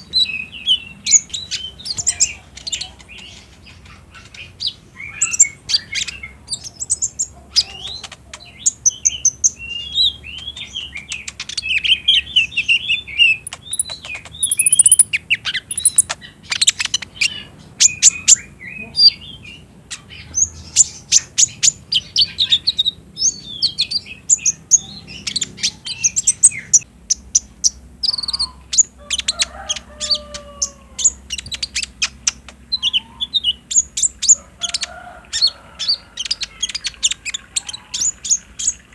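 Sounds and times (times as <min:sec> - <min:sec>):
bird song with high chirps and trills: 0:00.0 - 0:38.9.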